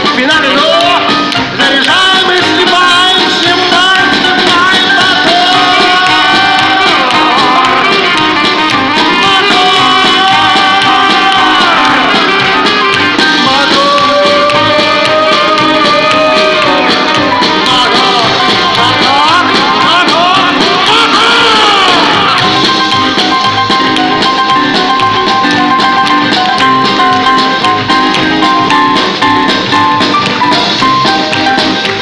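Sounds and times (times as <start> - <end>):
live band playing: 0.0 - 32.0.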